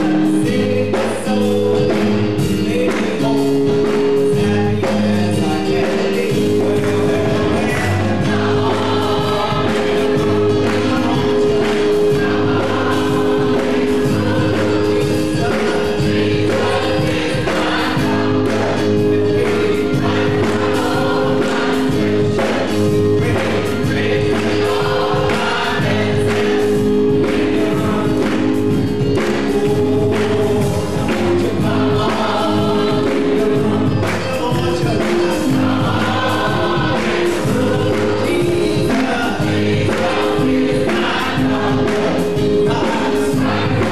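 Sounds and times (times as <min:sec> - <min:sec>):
bass line: 0:00.0 - 0:43.9
drums keeping a steady beat: 0:00.0 - 0:43.9
gospel choir singing: 0:00.0 - 0:43.9
keyboard chords: 0:00.0 - 0:43.9.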